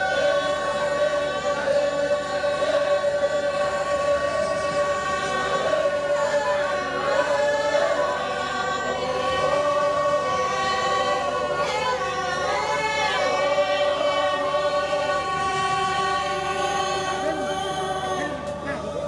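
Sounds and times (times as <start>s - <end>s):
voices singing through a microphone: 0.0s - 19.0s.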